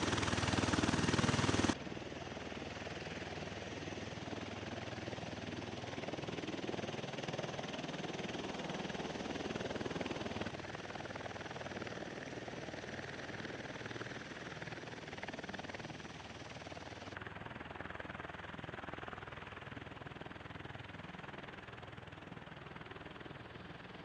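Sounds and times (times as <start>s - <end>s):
aircraft rotors droning: 0.0s - 24.0s.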